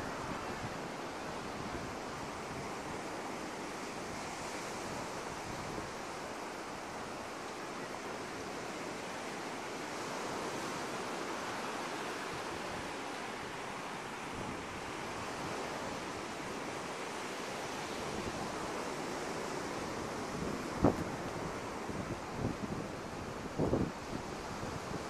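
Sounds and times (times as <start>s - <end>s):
waves washing onto a beach: 0.0s - 25.0s.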